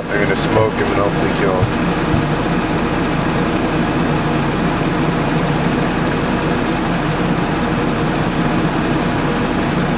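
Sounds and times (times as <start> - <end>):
armored vehicle engine idling: 0.0 - 9.9.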